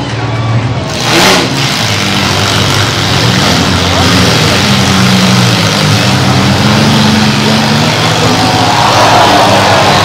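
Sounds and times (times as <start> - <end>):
crowd voices: 0.0 - 10.0
car engines revving hard: 0.9 - 10.0.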